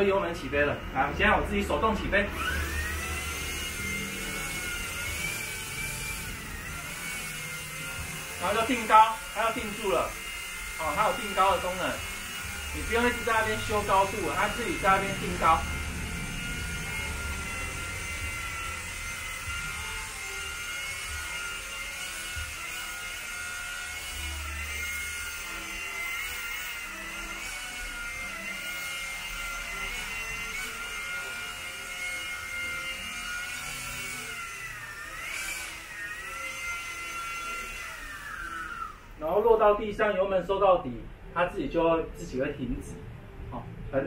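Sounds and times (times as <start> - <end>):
toy helicopter rotor whine: 0.0 - 40.4.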